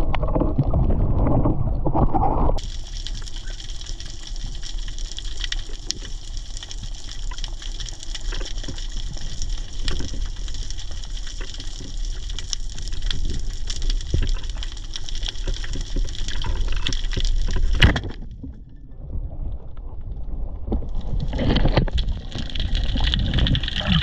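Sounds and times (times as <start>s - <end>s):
small crackles: 0.0s - 24.0s.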